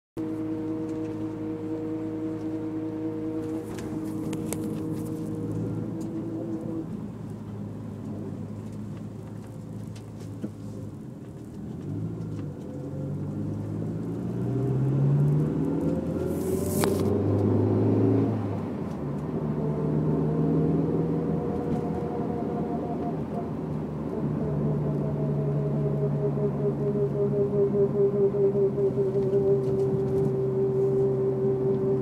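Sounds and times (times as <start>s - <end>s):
car engine accelerating: 0.2s - 32.0s
steady tone over engine: 0.2s - 32.0s.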